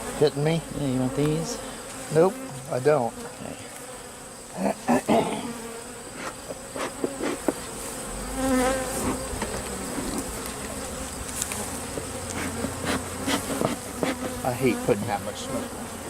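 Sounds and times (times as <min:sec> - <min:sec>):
bee passing close by: 0:00.0 - 0:16.0
bees buzzing: 0:00.0 - 0:16.0.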